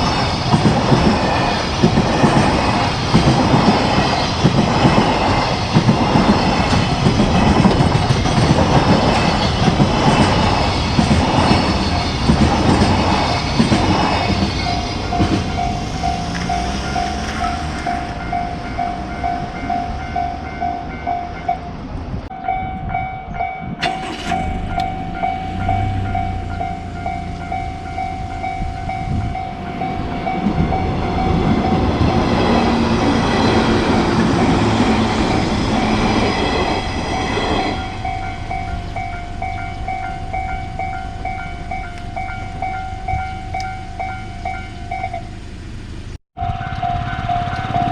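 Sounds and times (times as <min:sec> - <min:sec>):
crossing warning bell ringing: 0:00.0 - 0:47.9
train rumbling: 0:00.0 - 0:47.9.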